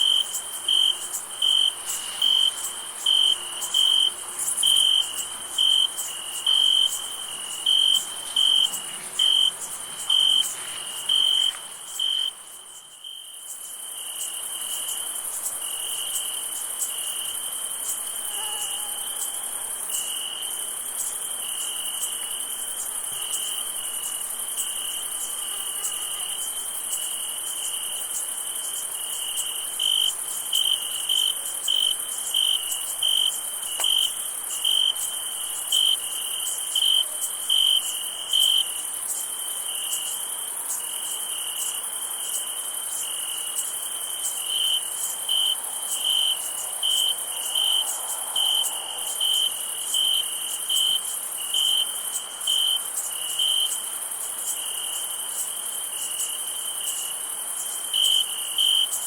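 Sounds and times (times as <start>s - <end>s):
crickets trilling: 0.0s - 59.0s
lower pulsing cricket chirp: 0.0s - 59.0s.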